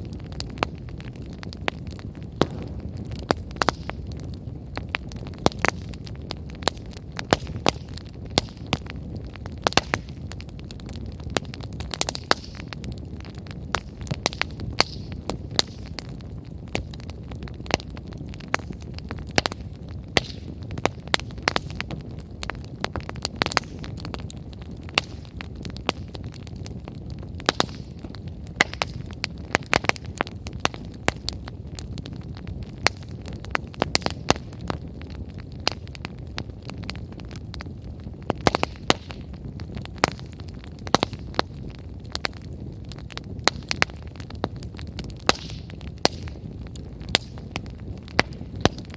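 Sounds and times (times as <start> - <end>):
firewood crackling and popping: 0.0 - 48.9
low rumble of fire: 0.0 - 48.9.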